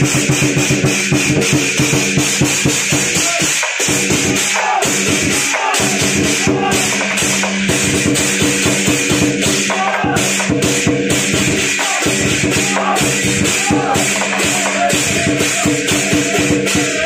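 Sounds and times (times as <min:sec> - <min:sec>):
music with quick percussion beat: 0:00.0 - 0:17.0.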